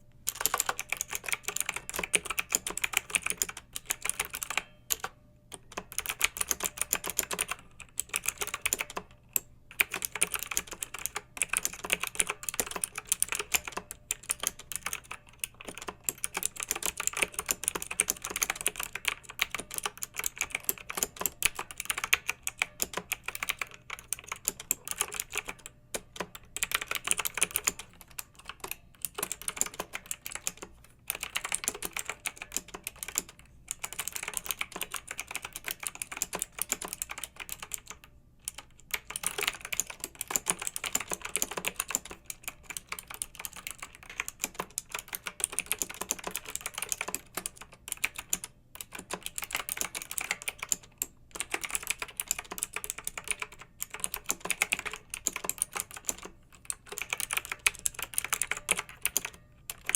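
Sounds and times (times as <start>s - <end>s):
typing on mechanical keyboard: 0.3s - 59.9s.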